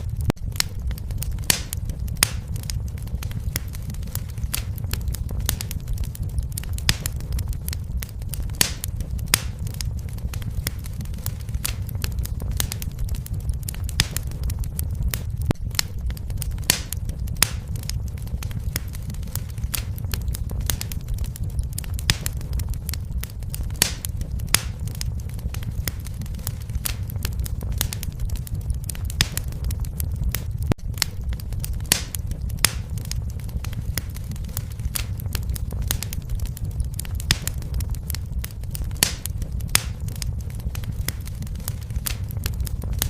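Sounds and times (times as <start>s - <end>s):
low rumble of flames: 0.0s - 43.0s
wood fire crackling: 0.0s - 43.0s.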